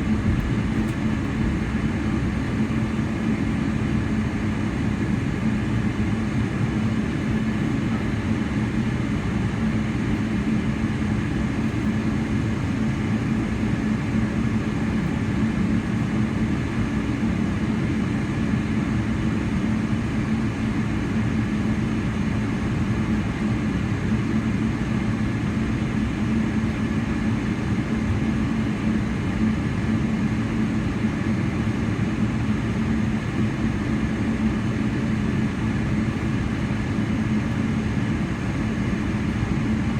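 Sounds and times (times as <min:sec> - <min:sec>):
aircraft cabin engine hum: 0:00.0 - 0:39.9.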